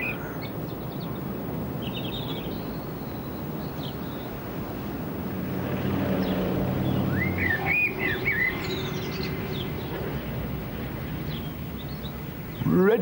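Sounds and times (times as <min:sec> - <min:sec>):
birds chirping: 0:00.0 - 0:13.0
light aircraft engine droning: 0:00.0 - 0:13.0.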